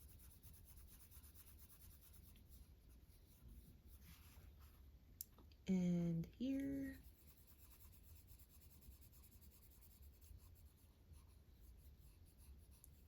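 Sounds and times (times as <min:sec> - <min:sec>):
colored pencil scratching on paper: 0:00.0 - 0:04.8, 0:06.6 - 0:13.0.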